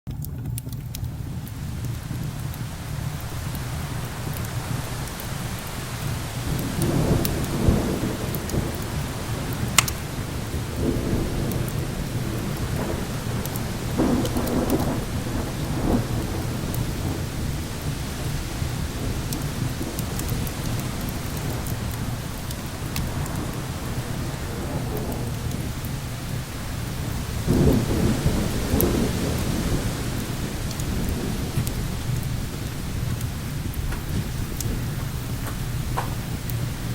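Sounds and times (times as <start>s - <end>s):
fire snapping: 0.1s - 36.9s
steady rain: 0.1s - 36.9s
wood fire crackling: 0.1s - 36.9s
rolling thunder: 0.3s - 36.9s.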